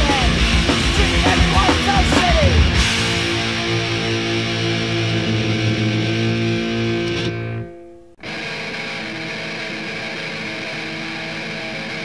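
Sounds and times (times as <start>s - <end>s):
distorted electric guitar: 0.0s - 12.0s
distorted guitar drone: 0.0s - 12.0s.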